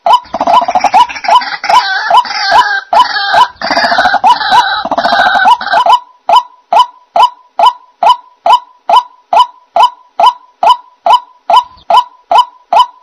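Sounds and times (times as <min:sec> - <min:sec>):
harsh croaking bird calls: 0:00.0 - 0:13.0.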